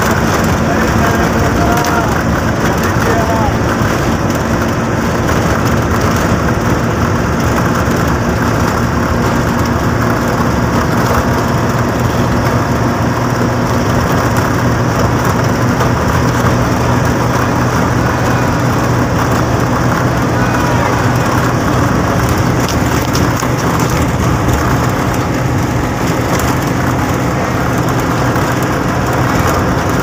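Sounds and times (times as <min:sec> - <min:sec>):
bus engine hum: 0:00.0 - 0:30.0
road and wind noise: 0:00.0 - 0:30.0.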